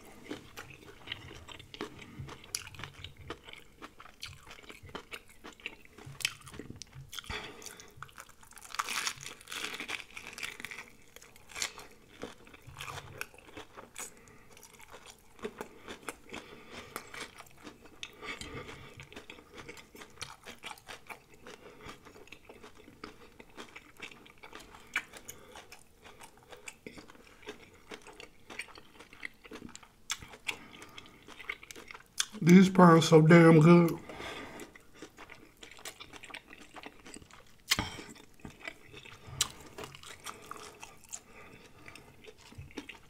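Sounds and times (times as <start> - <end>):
crunchy chewing of fried shrimp: 0.0 - 43.0.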